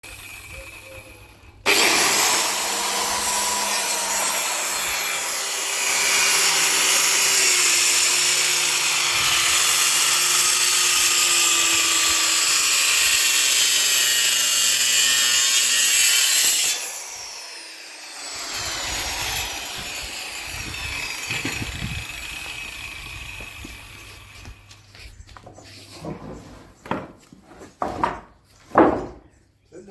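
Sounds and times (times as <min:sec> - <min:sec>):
power tool cutting wood: 0:00.0 - 0:24.9
rough working noise: 0:00.0 - 0:28.0.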